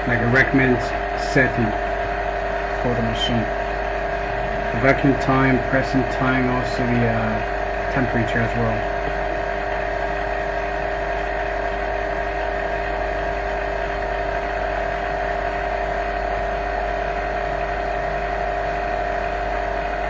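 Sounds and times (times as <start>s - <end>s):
laminating machine humming: 0.0s - 20.0s.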